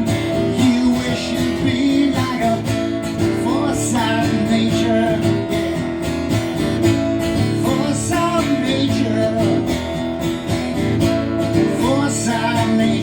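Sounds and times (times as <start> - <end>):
instrumental rock song: 0.0 - 13.0
strummed acoustic guitar: 0.0 - 13.0.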